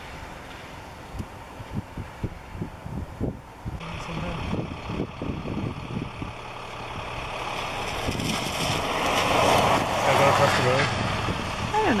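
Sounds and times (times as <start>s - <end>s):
low hum: 0.0s - 12.0s
vehicle engine approaching: 0.0s - 12.0s.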